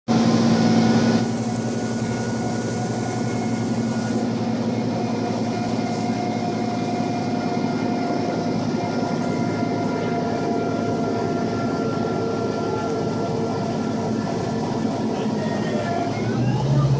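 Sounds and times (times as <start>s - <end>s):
bus diesel engine drone: 0.1s - 16.9s
constant whine: 0.2s - 16.9s.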